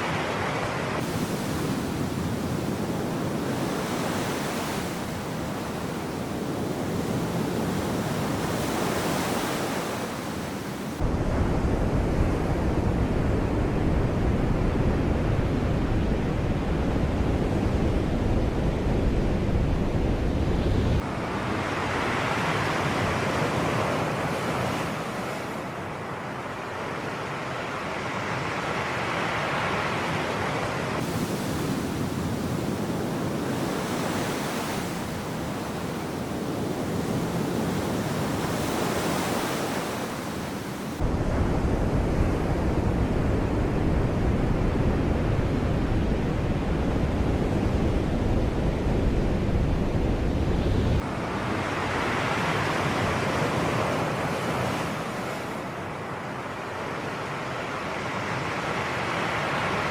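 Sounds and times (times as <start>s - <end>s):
sea waves breaking: 0.0s - 11.1s, 20.3s - 59.9s.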